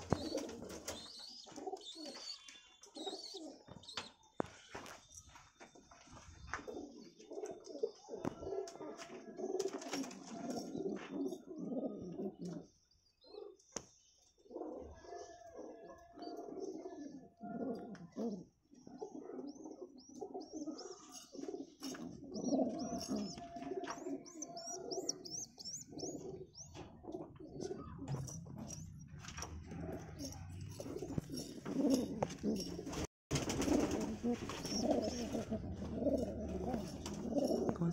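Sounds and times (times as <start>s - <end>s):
pigeons cooing: 0.0s - 4.9s, 6.4s - 37.9s.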